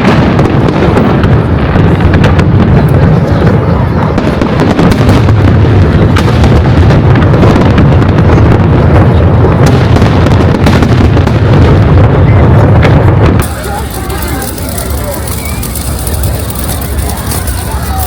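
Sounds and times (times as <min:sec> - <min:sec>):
fireworks booming: 0:00.0 - 0:18.0
fireworks popping and crackling: 0:00.0 - 0:18.0.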